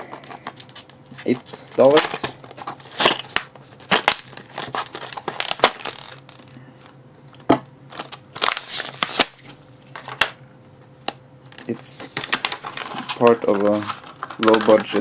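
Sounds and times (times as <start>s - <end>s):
packaging crinkling: 0.0s - 7.0s, 7.9s - 10.4s, 11.4s - 15.0s.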